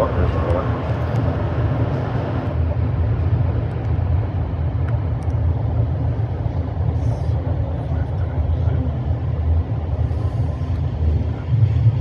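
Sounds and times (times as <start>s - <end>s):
metro train rumbling inside car: 0.0s - 12.0s.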